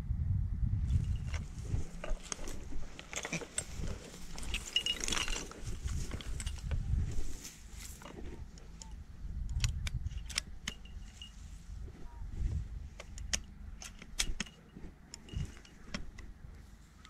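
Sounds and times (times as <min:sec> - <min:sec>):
wind rumble on microphone: 0:00.0 - 0:14.4
reed stems rustling and clicking: 0:00.9 - 0:17.0.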